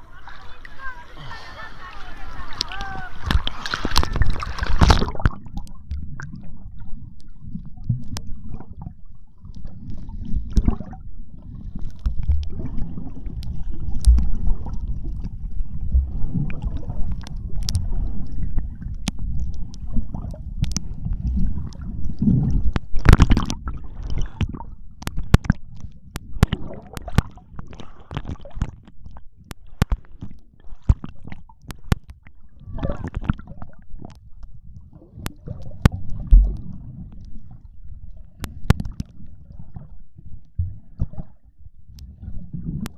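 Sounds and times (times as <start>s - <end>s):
underwater rumble of moving water: 0.0s - 42.9s.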